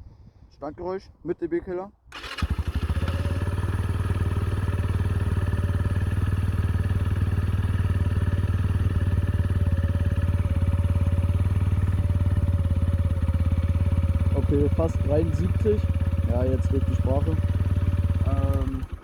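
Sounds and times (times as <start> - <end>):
motorcycle engine idling: 2.2 - 19.0.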